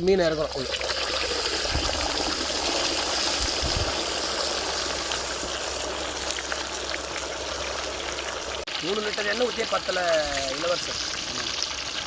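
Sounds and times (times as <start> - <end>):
water pouring from pump: 0.1 - 12.0.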